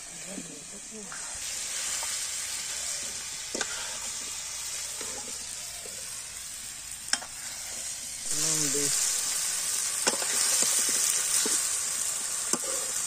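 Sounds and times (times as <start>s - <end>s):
curry sizzling in a wok: 0.0s - 13.0s.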